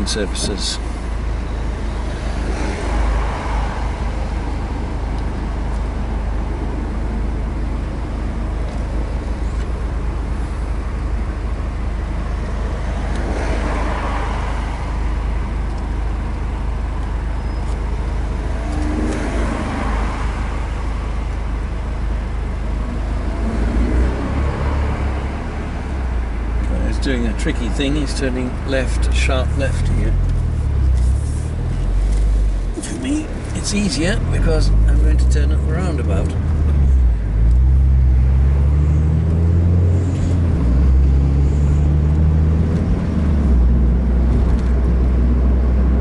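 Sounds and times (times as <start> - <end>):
car engine idling: 0.0 - 46.0
cars passing by: 0.0 - 46.0.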